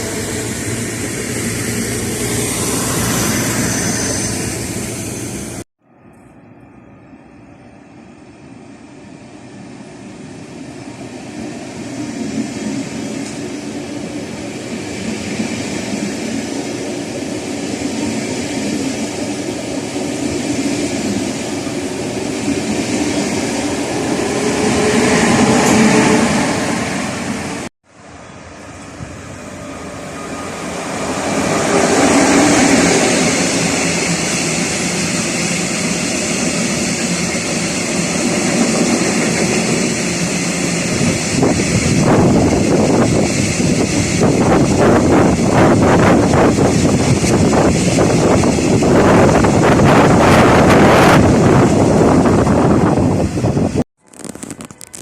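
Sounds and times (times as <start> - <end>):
rail vehicle passing: 0.0 - 53.8.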